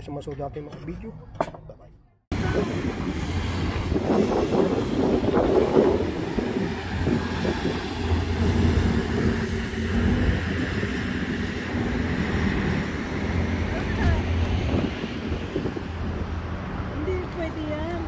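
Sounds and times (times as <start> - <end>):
traffic rumble: 0.0 - 18.0
wind on microphone: 2.3 - 18.0.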